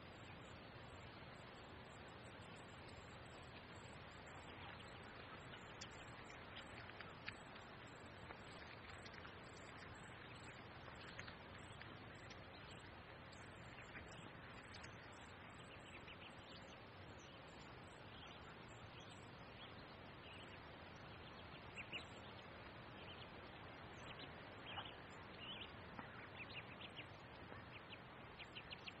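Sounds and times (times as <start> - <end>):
faint steady hiss: 0.0 - 29.0
ducklings peeping: 2.7 - 29.0.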